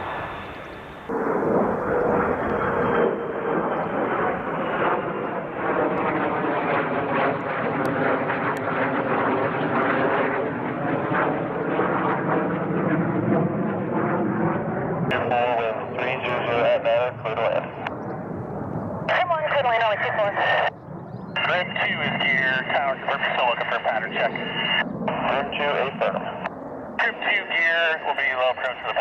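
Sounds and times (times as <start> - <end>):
fighter jet engine roaring: 0.0 - 29.0.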